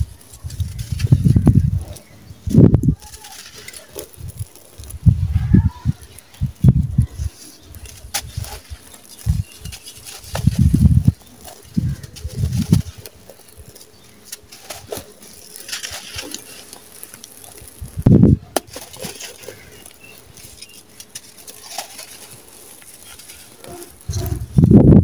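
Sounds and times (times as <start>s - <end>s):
block crumbling gritty crackling: 0.0s - 24.9s
loud crunch: 0.0s - 24.9s
sand pouring: 0.0s - 24.9s.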